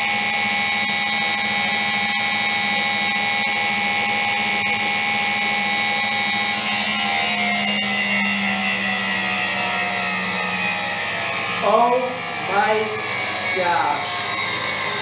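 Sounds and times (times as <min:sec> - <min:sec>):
washing machine motor whine: 0:00.0 - 0:15.0.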